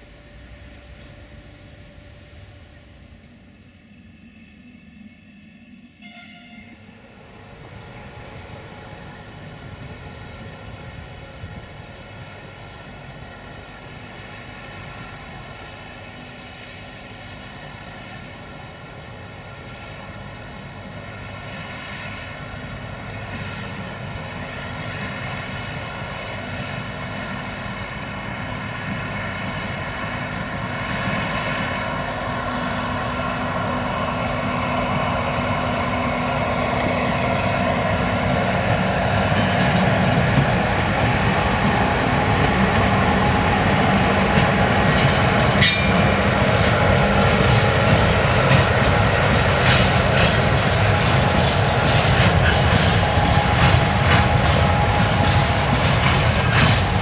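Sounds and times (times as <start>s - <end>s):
electric locomotive droning: 0.0s - 57.0s.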